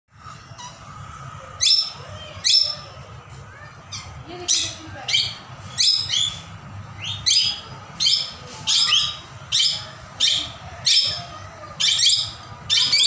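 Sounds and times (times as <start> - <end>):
parakeets shrill calls: 1.6 - 3.0, 3.8 - 13.0.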